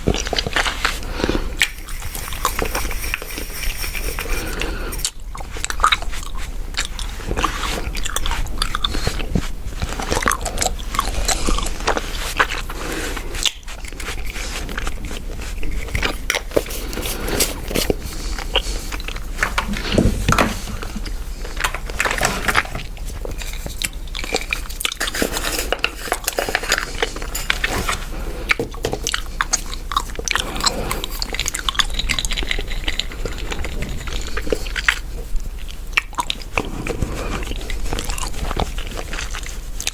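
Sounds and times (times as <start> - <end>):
gum chewing: 4.2 - 39.9.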